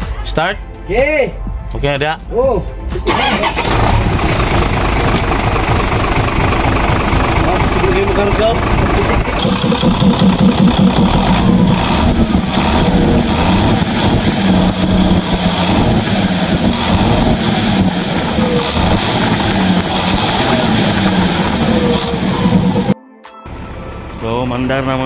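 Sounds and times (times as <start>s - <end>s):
diesel engine revving: 3.1s - 25.0s.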